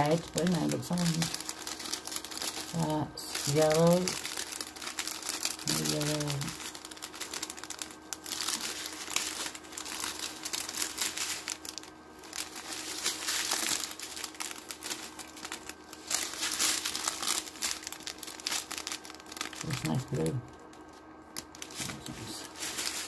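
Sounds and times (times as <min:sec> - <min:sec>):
plastic packets crinkling: 0:00.0 - 0:23.0.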